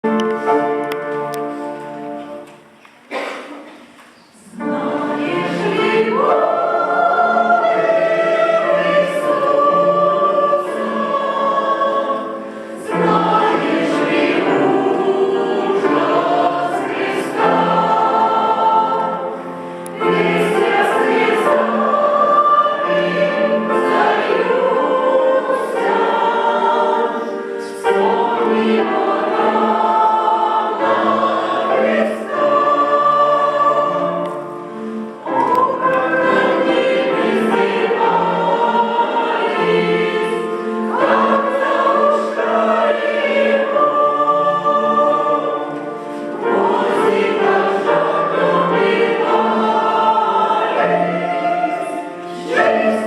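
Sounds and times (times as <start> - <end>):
church choir singing a hymn: 0.0 - 53.0.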